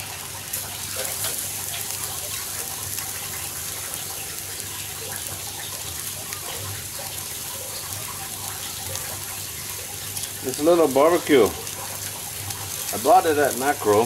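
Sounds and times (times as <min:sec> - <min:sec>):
meat sizzling on a charcoal grill: 0:00.0 - 0:14.0.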